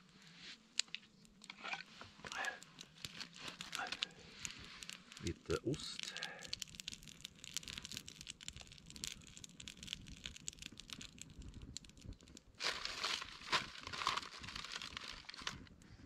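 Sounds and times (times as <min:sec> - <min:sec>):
plastic packaging crinkling: 0:01.3 - 0:15.7.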